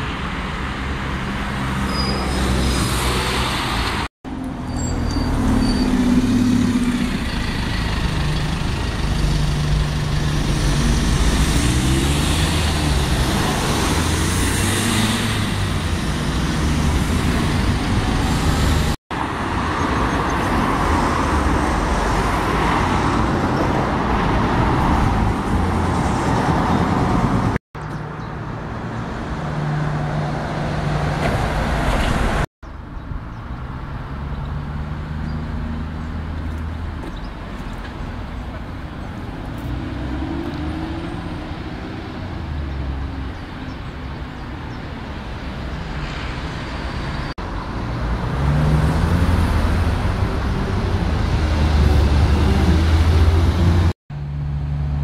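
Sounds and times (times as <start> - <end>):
buses and traffic driving past: 0.0 - 55.0.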